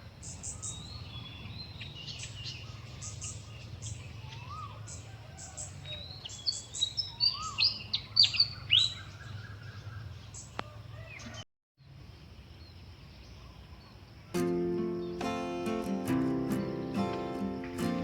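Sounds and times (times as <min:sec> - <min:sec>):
birds chirping: 0:00.0 - 0:11.4, 0:12.1 - 0:18.0.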